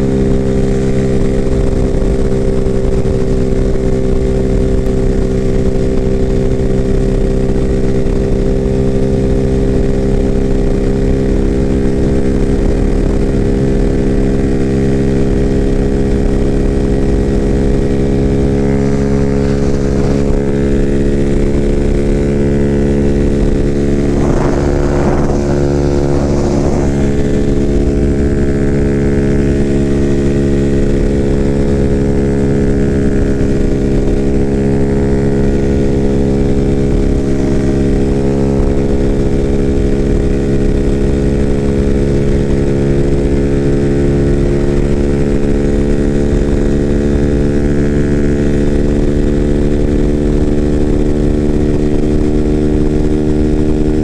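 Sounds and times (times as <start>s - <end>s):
motorcycle engine cruising: 0.0s - 54.0s
wind noise: 0.0s - 54.0s.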